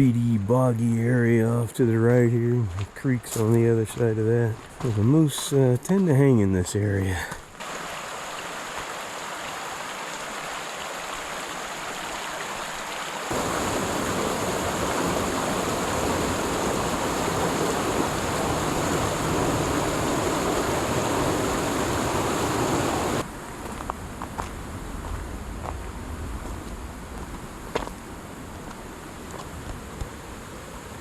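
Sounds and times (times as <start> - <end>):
mountain creek rushing: 0.0 - 31.0.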